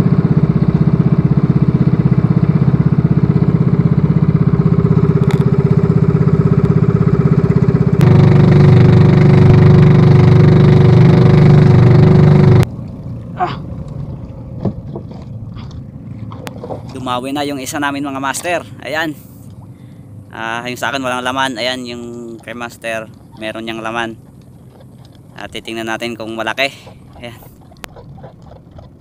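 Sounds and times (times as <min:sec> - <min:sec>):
boat engine pulsing: 0:00.0 - 0:29.0.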